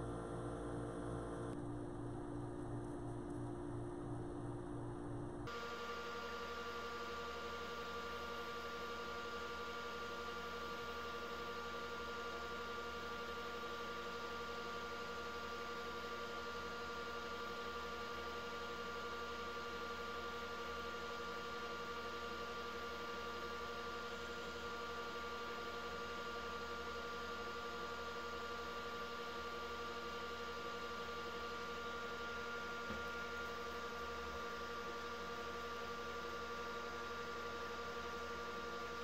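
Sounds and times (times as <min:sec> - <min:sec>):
wood lathe motor hum and whine: 0:05.5 - 0:39.0.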